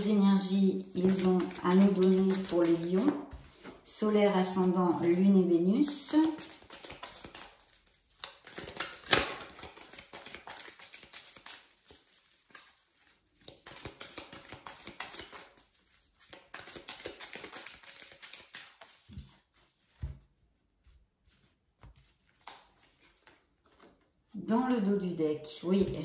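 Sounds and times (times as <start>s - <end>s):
cards being shuffled: 0.8s - 3.8s, 4.4s - 20.3s, 21.3s - 24.1s.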